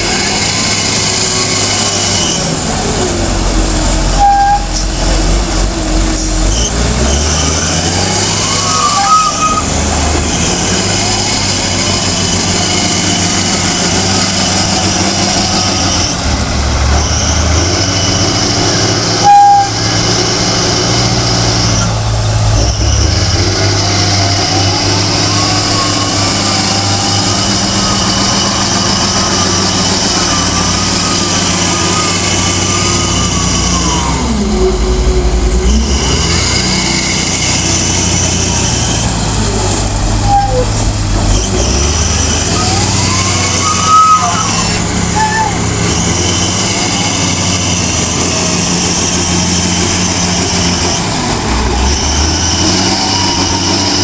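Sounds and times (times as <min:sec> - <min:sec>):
diesel engine revving: 0:00.0 - 0:54.0
rising and falling whine: 0:01.1 - 0:47.2.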